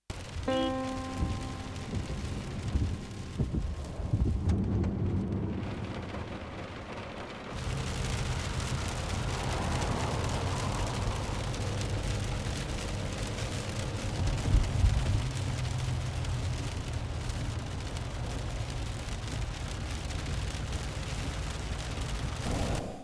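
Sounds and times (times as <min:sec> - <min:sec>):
low rumble with hiss: 0:00.1 - 0:23.0.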